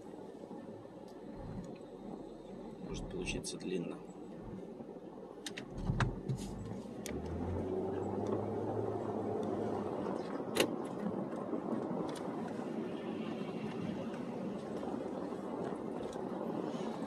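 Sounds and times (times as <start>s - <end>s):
car engine: 1.3s - 16.8s.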